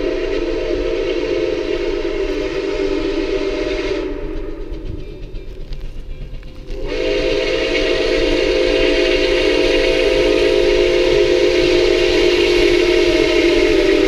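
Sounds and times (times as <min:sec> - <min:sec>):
chime steam whistle: 0:00.0 - 0:05.4, 0:06.7 - 0:14.0
moving train: 0:00.0 - 0:14.0.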